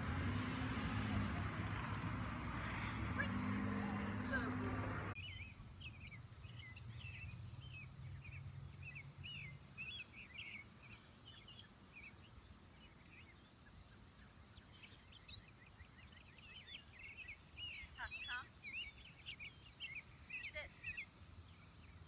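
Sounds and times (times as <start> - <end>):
birds chirping and twittering: 0.0 - 22.0.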